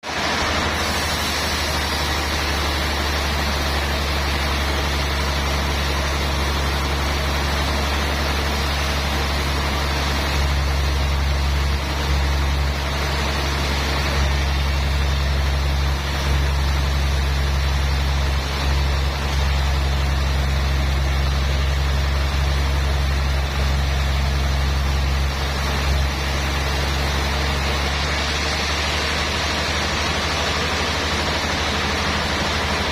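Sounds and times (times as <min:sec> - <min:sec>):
sawmill machinery hum: 0:00.0 - 0:32.9.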